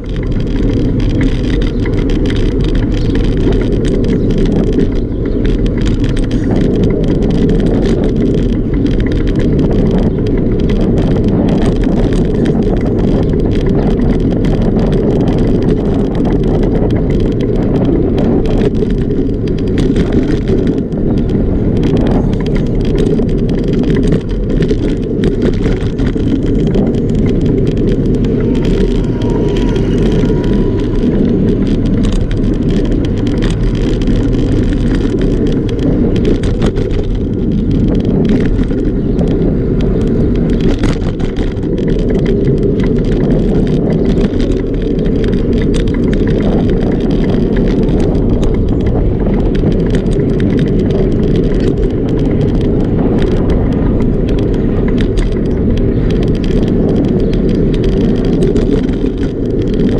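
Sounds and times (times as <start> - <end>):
bicycle road vibration: 0.0 - 59.9
bike rattles and knocks: 0.0 - 59.9
wind on microphone: 0.0 - 59.9.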